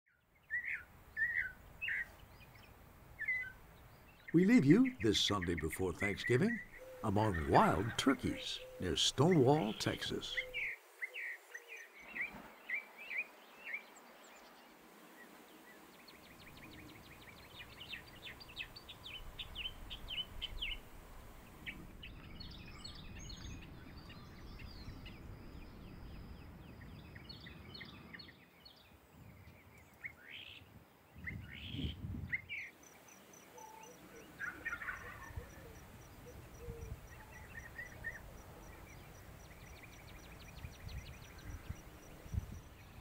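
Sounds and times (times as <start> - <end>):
small birds chirping: 0.1 - 43.0.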